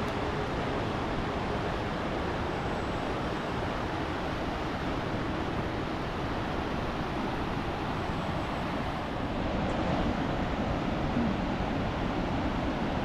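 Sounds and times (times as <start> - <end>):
creek rushing: 0.0 - 13.0.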